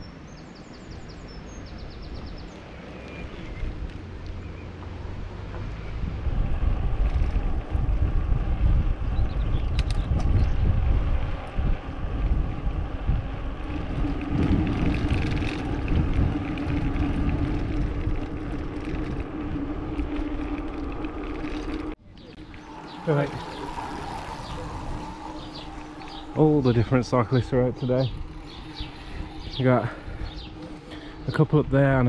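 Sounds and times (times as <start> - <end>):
wind buffeting microphone: 0.6 - 32.0
steady hum: 6.0 - 32.0.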